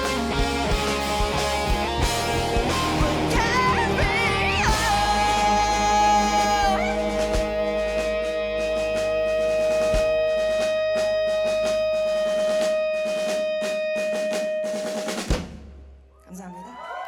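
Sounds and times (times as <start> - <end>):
live rock band: 0.0 - 15.8
drums snare and cymbal hits: 0.0 - 16.2.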